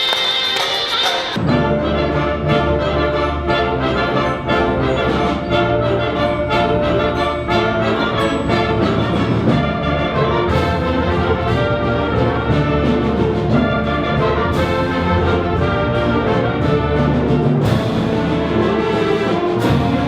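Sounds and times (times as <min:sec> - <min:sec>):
orchestral music with brass: 0:00.0 - 0:20.0.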